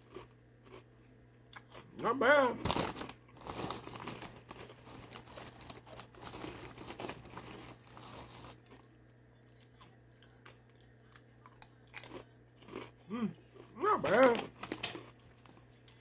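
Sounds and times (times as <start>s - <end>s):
potato chips crunching: 0.0s - 0.9s, 1.5s - 16.0s.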